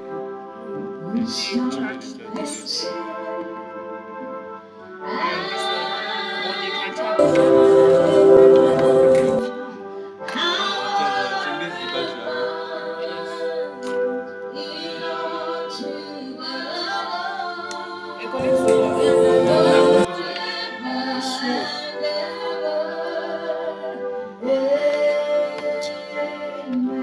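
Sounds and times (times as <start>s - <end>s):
voices singing worship music: 5.0s - 27.0s.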